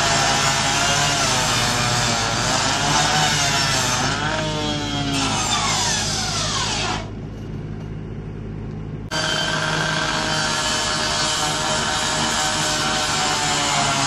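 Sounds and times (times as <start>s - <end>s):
cut-off saw grinding metal: 0.0s - 7.1s, 9.1s - 14.0s.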